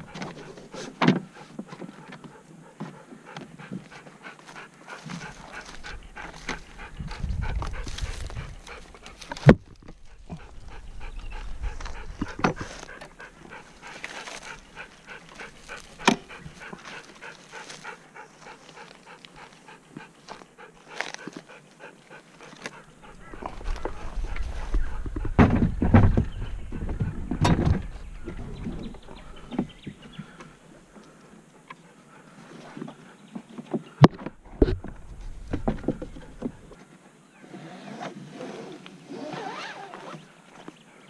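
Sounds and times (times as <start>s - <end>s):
dog panting: 0.0s - 30.5s, 31.1s - 33.3s, 34.8s - 36.8s.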